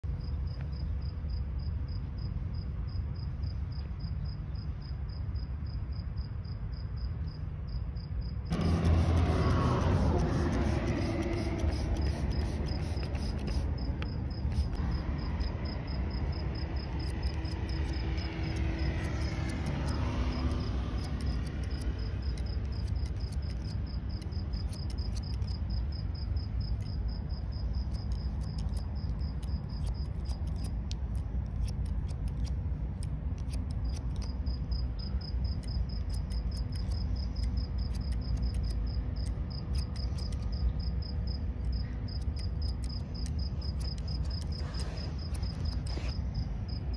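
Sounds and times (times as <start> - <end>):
insect chirping: 0.1 - 46.9
scissors snipping hair: 8.5 - 46.2.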